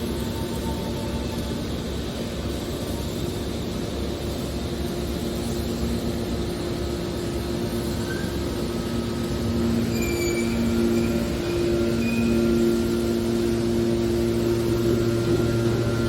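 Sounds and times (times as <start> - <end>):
baler machine drone: 0.0 - 16.0.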